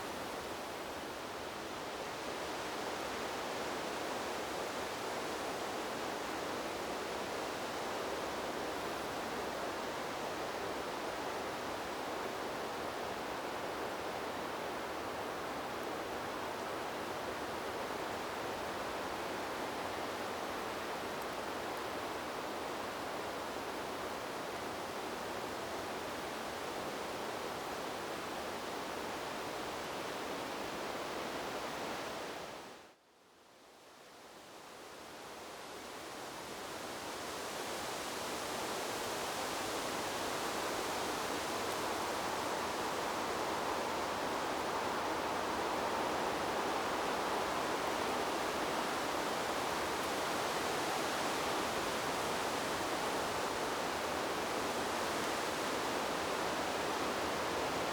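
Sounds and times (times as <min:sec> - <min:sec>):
wind blowing through trees: 0:00.0 - 0:57.9.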